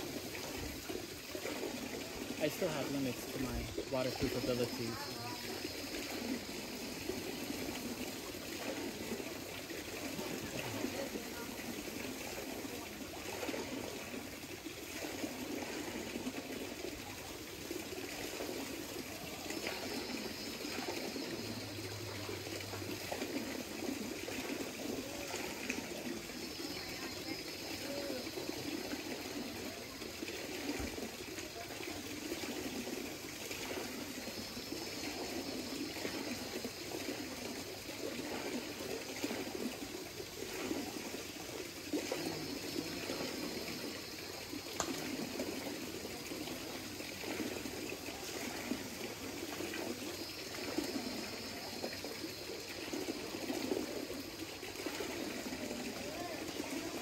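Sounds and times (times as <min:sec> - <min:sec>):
water rushing over cascades: 0:00.0 - 0:57.0.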